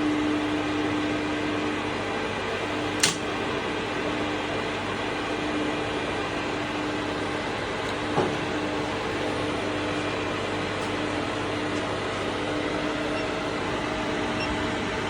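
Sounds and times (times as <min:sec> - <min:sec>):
electrical machine hum: 0:00.0 - 0:15.0.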